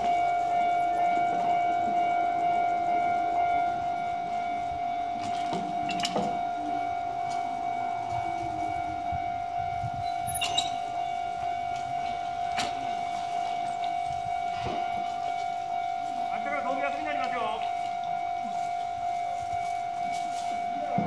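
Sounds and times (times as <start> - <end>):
level crossing alarm ringing: 0.0 - 21.0.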